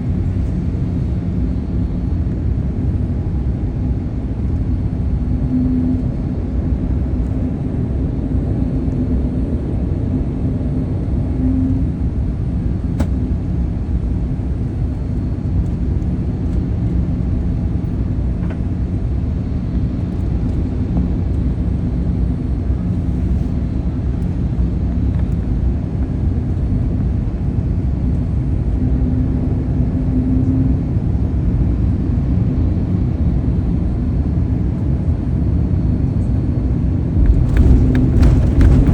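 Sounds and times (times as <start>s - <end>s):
airliner cabin rumble: 0.0s - 38.9s
faint engine hum: 0.0s - 38.9s.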